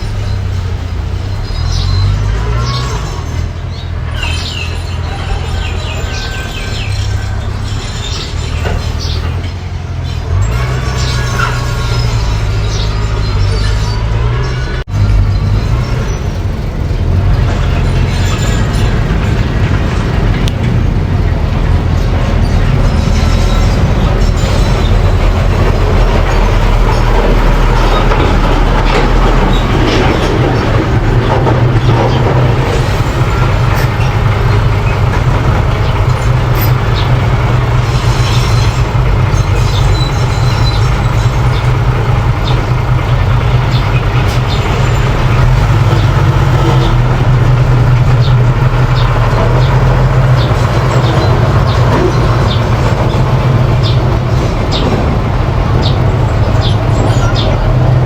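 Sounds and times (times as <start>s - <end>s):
bulldozer engine drone: 0.0s - 58.0s
metallic clanking: 0.0s - 58.0s.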